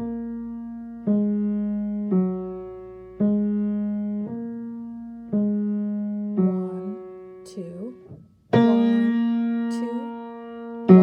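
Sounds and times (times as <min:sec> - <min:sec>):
low piano notes: 0:00.0 - 0:11.0.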